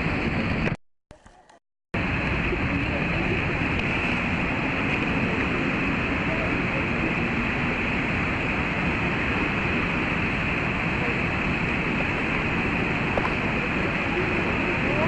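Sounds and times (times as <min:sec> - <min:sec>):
wind noise on microphone: 0:00.0 - 0:00.8, 0:02.0 - 0:15.0
river churning: 0:02.0 - 0:15.0
waterfall roaring: 0:02.0 - 0:15.0.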